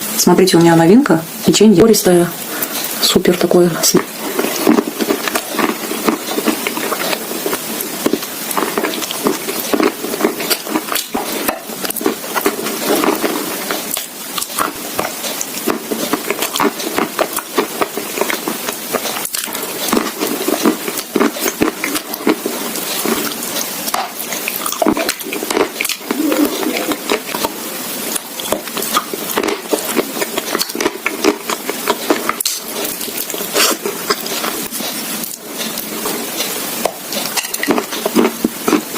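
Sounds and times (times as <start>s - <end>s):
crunching and chewing: 4.0s - 38.9s.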